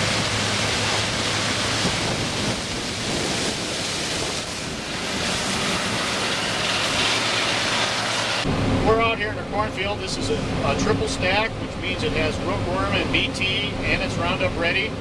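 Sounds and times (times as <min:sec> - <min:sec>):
combine harvester rushing noise: 0:00.0 - 0:15.0.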